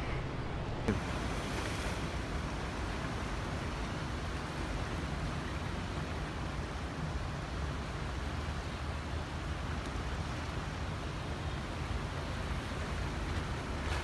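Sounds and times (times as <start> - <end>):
sea against rocks: 0.0 - 14.0
wind: 0.0 - 14.0.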